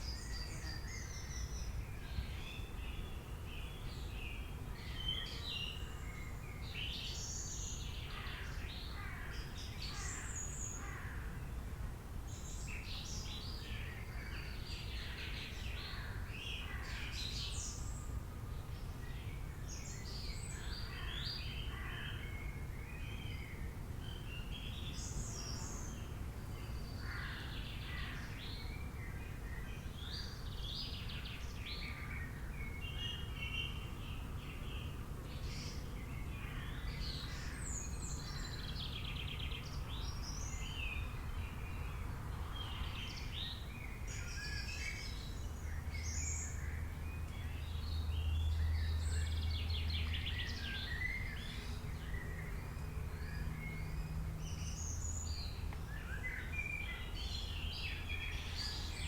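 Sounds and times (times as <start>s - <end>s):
wild birds chirping and trilling: 0.0s - 11.6s, 12.3s - 59.0s.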